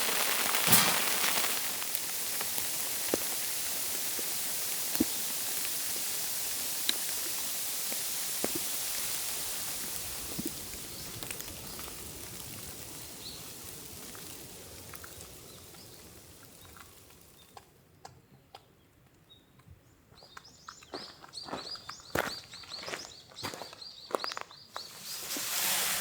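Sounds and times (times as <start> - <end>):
small birds chirping: 1.9 - 25.2.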